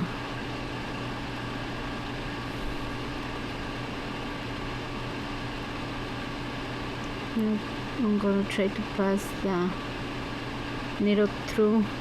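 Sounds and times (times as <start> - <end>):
clothes dryer humming: 0.0 - 12.0.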